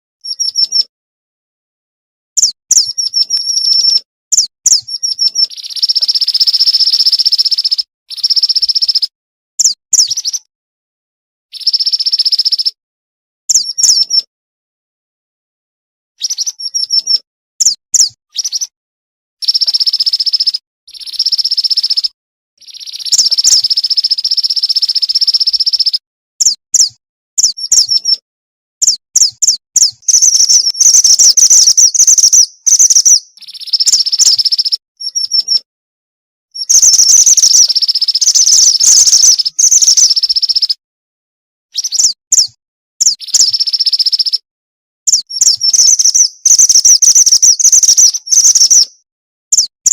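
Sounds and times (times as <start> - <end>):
bird chirps and trills: 0.2 - 0.9, 2.4 - 10.5, 11.5 - 12.8, 13.5 - 14.3, 16.2 - 18.7, 19.4 - 28.2, 28.8 - 35.7, 36.6 - 40.8, 41.8 - 44.4, 45.1 - 49.9.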